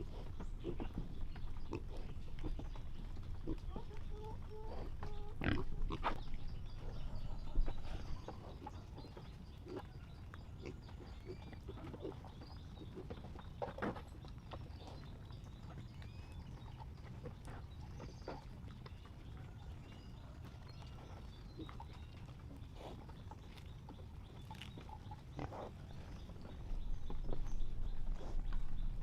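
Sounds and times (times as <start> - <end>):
farm animals grunting: 0.0 - 29.0.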